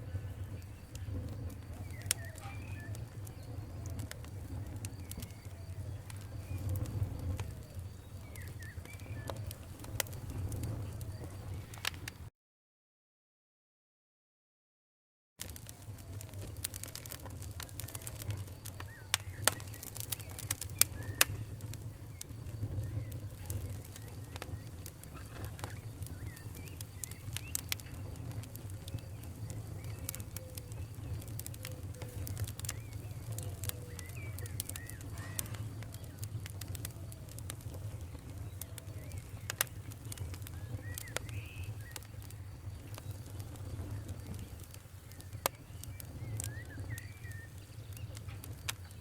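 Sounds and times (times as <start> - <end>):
faint whistling chirps: 0.0 - 12.3, 15.7 - 49.0
fireplace fire crackling: 0.0 - 12.3, 15.4 - 49.0.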